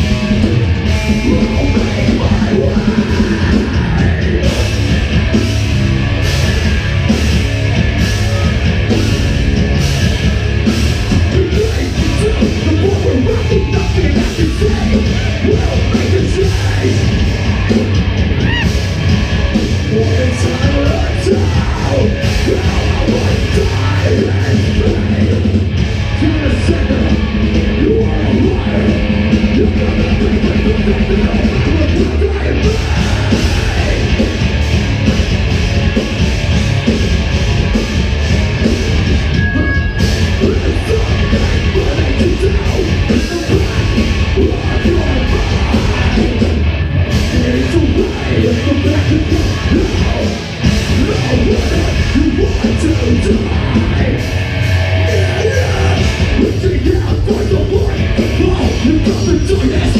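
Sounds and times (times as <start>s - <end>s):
singer's vocals: 0.0s - 5.2s, 11.1s - 18.8s, 19.8s - 34.6s, 39.3s - 59.9s
drums: 0.0s - 59.9s
guitars: 0.0s - 59.9s.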